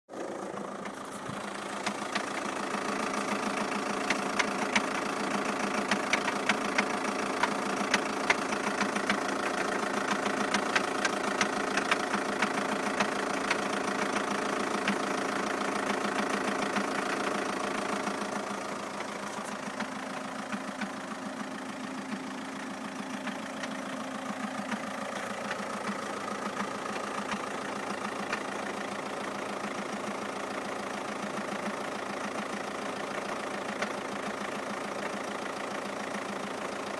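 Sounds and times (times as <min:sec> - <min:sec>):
diesel engine idling: 0:00.1 - 0:36.9
irregular engine knocking: 0:00.2 - 0:36.9.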